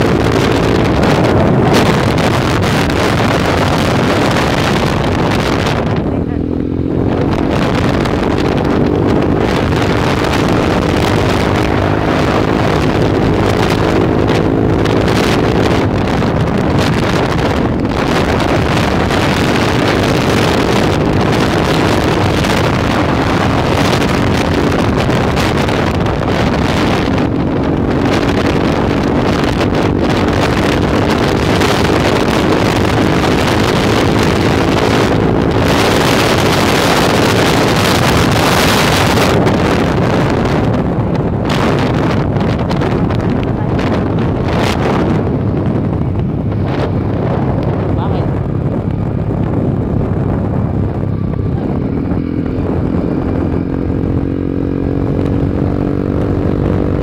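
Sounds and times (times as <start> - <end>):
motorcycle engine hum: 0.0 - 57.0
wind noise on microphone: 0.0 - 57.0.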